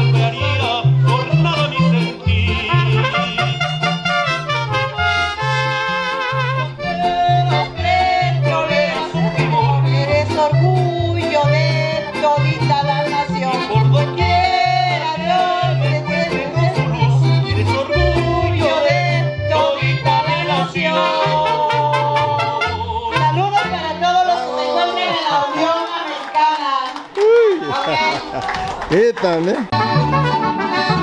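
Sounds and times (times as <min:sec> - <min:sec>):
plucked bass line: 0:00.0 - 0:25.4, 0:29.7 - 0:31.0
strummed guitars: 0:00.0 - 0:25.6, 0:29.7 - 0:31.0
vibrato melody: 0:00.0 - 0:25.7, 0:29.7 - 0:31.0.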